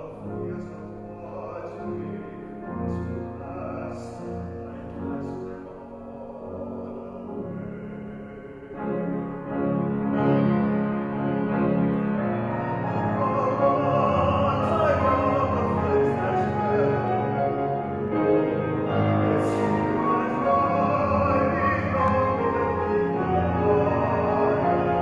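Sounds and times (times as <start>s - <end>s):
man singing operatically: 0.0s - 9.1s, 12.7s - 25.0s
grand piano accompaniment: 0.0s - 25.0s.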